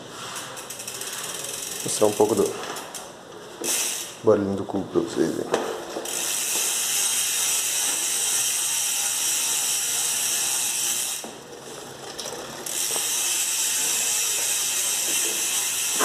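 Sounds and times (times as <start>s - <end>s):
bike hub freewheel clicking: 0.2s - 4.2s, 5.9s - 16.0s.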